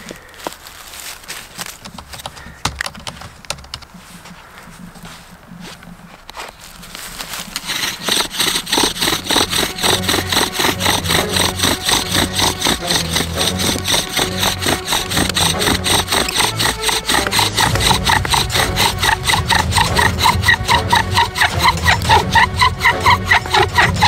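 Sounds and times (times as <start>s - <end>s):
bow drill wood rasping: 1.6s - 4.0s, 6.8s - 24.0s.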